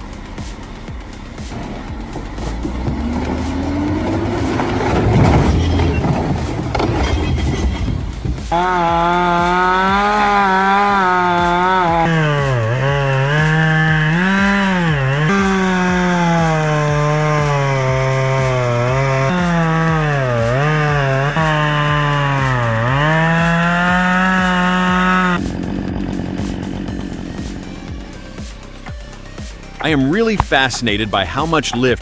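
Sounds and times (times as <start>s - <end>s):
chainsaw cutting wood: 0.4s - 30.6s.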